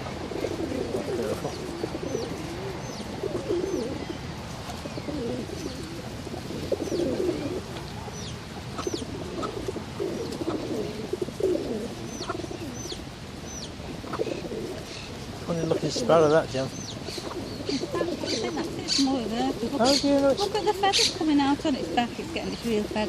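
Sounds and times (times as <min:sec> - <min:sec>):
doves cooing: 0:00.0 - 0:23.0.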